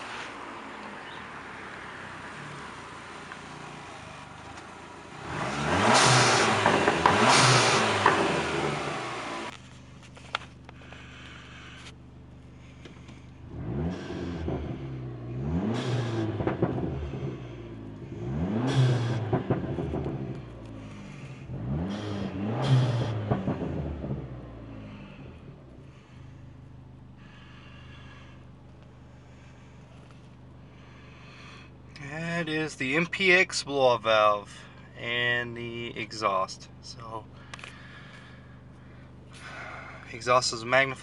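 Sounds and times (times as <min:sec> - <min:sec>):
car engine idling and revving: 0:00.0 - 0:41.0.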